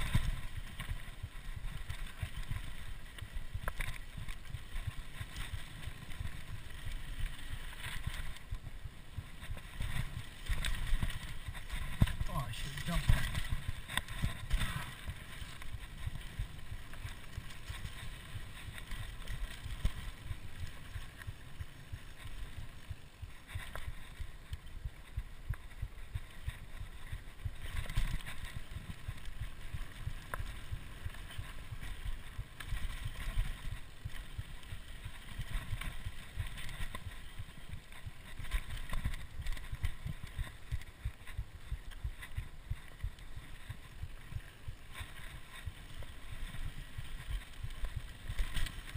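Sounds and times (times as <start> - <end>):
bike tyres rumbling on rough ground: 0.0 - 48.9
wind buffeting microphone: 0.0 - 48.9.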